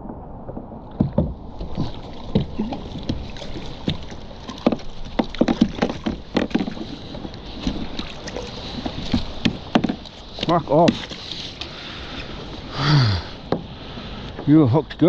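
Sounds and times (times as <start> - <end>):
knocks and clatters on a kayak: 0.0 - 12.7, 13.3 - 15.0
water splashing: 0.0 - 14.5.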